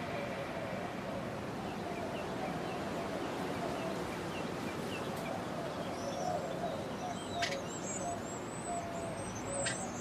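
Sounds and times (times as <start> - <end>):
steady background hiss: 0.0 - 10.0
faint bird chirps: 1.7 - 10.0.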